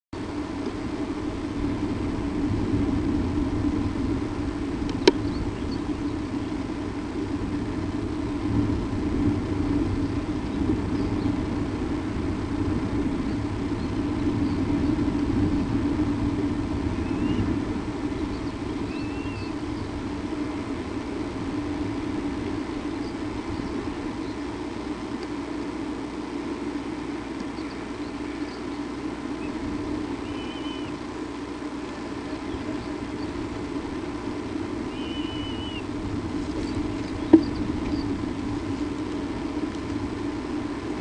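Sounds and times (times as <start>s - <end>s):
steady low rumbling: 0.1s - 41.0s.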